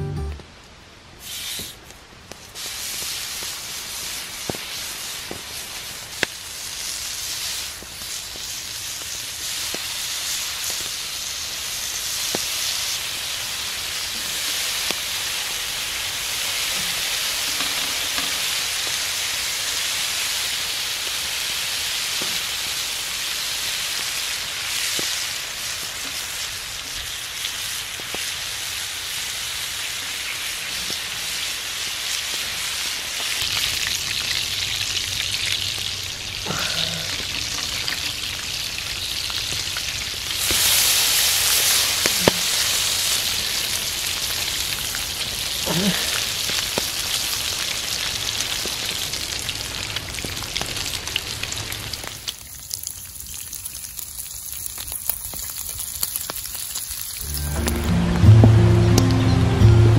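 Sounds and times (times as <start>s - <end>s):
bacon sizzling on a griddle: 1.2s - 57.5s.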